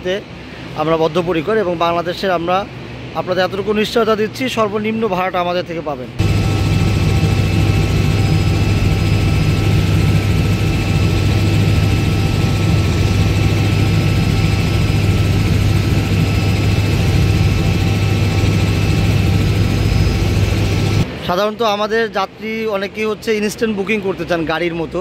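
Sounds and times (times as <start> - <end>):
helicopter rotor and engine: 0.0 - 21.4
faint high whining tones: 0.4 - 21.3.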